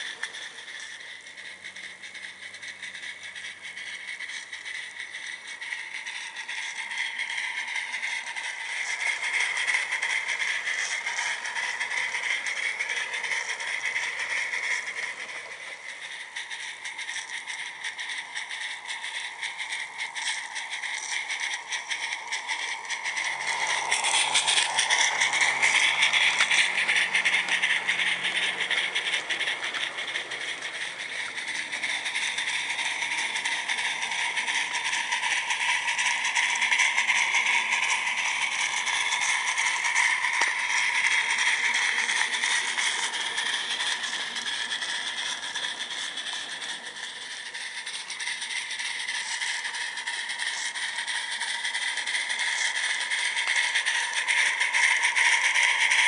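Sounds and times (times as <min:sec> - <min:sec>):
model steam locomotive chuffing: 0:00.0 - 0:56.0
small wagons rattling over track: 0:00.0 - 0:56.0.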